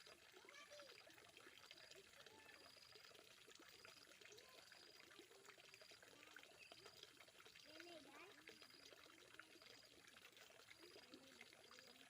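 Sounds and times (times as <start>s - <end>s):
faint running water: 0.0s - 12.0s.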